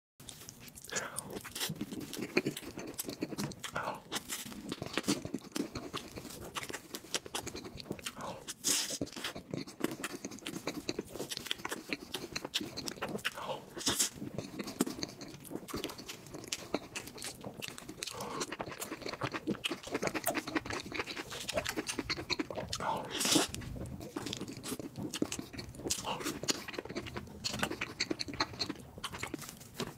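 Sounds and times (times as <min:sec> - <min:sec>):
person chewing cake: 0:00.2 - 0:29.9.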